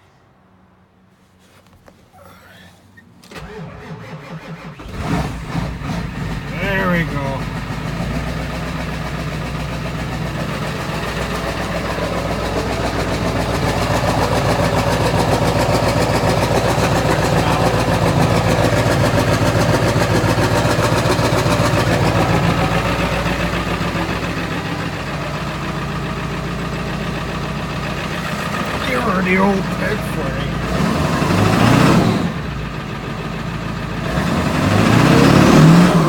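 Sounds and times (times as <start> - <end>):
diesel engine idling: 2.2 - 36.0.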